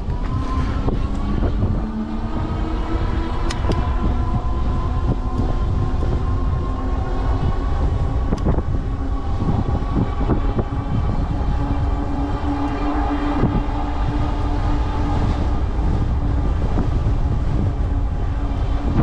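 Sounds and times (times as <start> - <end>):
bicycle tyres rolling: 0.0 - 19.0
electric hub motor whine: 0.0 - 19.0
wind buffeting microphone: 0.0 - 19.0.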